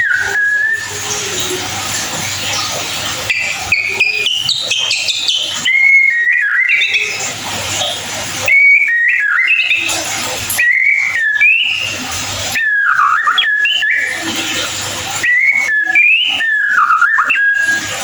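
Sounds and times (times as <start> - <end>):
bird singing whistled notes: 0.0 - 18.0.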